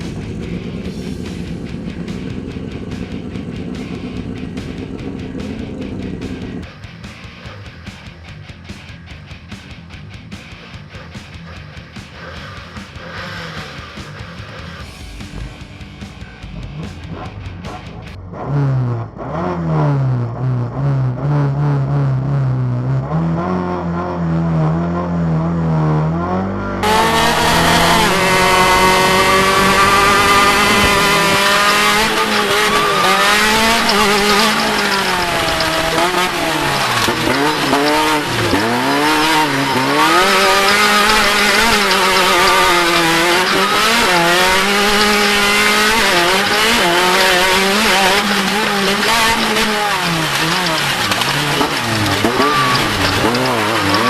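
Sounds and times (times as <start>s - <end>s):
race engine revving: 0.0s - 54.0s.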